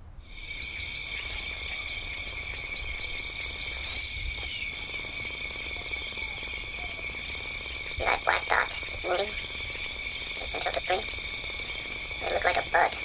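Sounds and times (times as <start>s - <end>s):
crickets trilling: 0.2s - 13.0s
short insect chirps: 0.2s - 13.0s.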